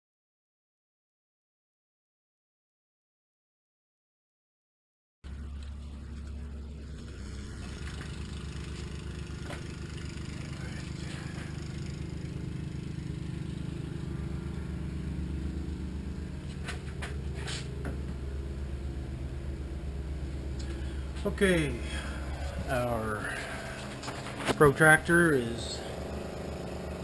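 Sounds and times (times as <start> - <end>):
low machine hum with flutter: 5.2 - 27.0.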